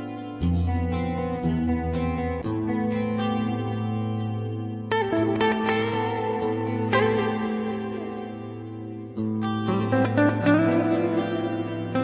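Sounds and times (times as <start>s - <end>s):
background music led by guitar: 0.0s - 12.0s
plucked guitar notes: 0.0s - 12.0s.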